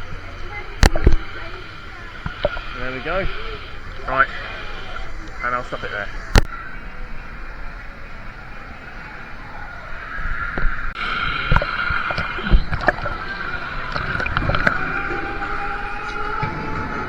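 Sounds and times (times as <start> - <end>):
water sloshing and rushing: 0.0 - 17.0.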